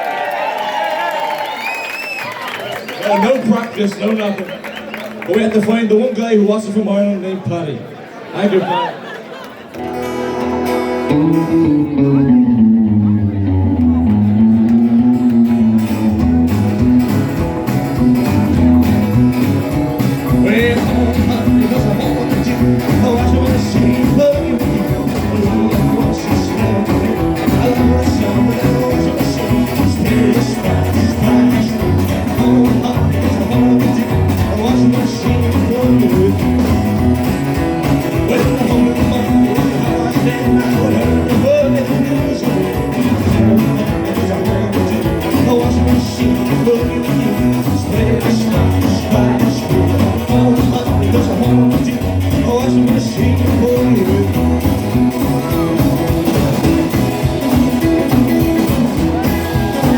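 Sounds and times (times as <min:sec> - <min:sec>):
rockabilly band playing: 0:09.5 - 0:59.9
person singing: 0:11.0 - 0:17.2, 0:18.0 - 0:59.9.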